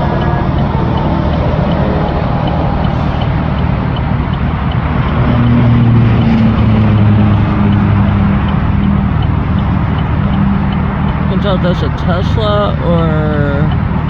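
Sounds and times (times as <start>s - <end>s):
faint regular ticking: 0.0s - 14.0s
highway traffic rumble: 0.0s - 14.0s
low engine drone: 0.0s - 14.0s.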